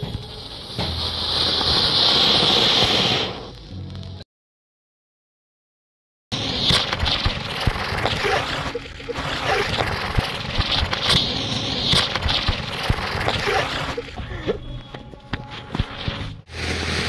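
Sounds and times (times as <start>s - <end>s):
spinning firework whirr: 0.0s - 3.6s, 6.3s - 14.9s, 15.5s - 17.0s
firework sparks hissing: 0.0s - 4.2s, 6.4s - 14.4s, 15.5s - 17.0s
sharp crackles: 0.0s - 4.2s, 6.4s - 17.0s.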